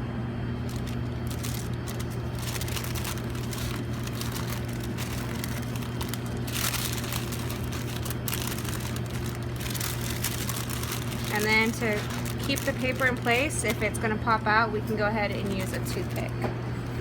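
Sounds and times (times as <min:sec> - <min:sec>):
low mechanical hum: 0:00.0 - 0:17.0
paper wrapper crinkling: 0:00.6 - 0:14.4, 0:15.1 - 0:17.0.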